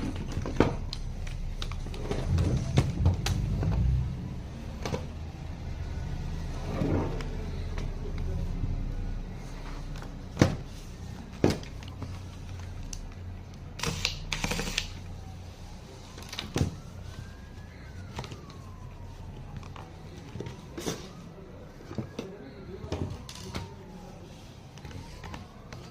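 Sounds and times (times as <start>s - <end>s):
faint siren: 0.0s - 25.9s.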